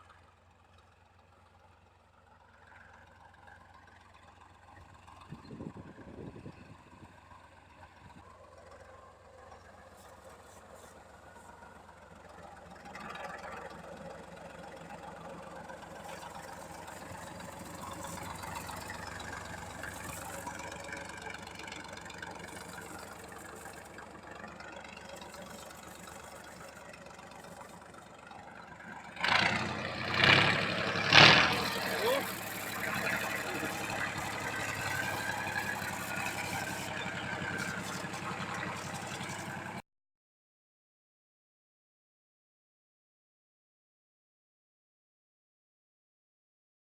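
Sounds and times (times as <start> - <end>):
diesel tractor engine running: 0.0 - 39.8.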